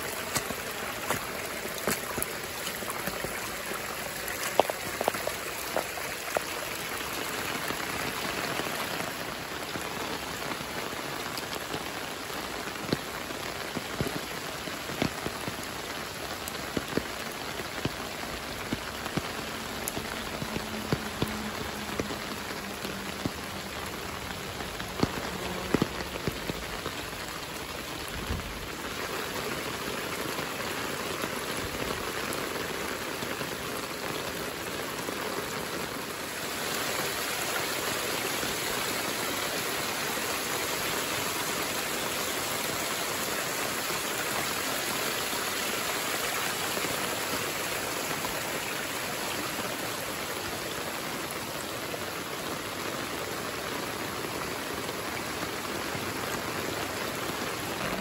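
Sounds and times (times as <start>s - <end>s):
rain falling on undergrowth: 0.0s - 58.0s
water trickling over stones: 0.0s - 58.0s.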